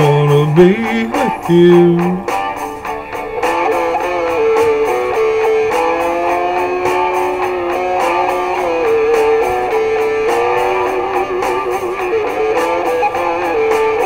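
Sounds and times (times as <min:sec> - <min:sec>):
lead melody of long bending notes: 0:00.0 - 0:14.0
strummed guitar: 0:00.0 - 0:14.0.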